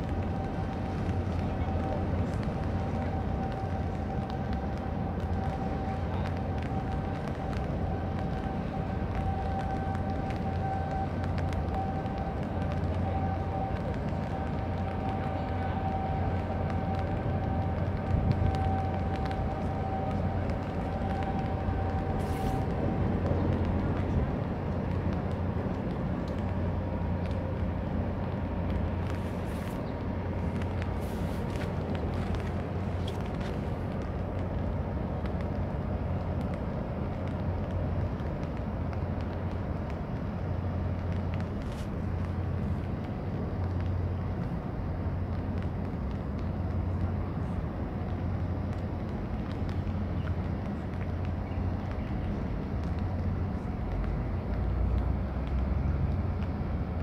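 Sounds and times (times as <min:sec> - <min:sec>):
harbour noise: 0:00.0 - 0:57.0
ship engines droning: 0:00.0 - 0:57.0.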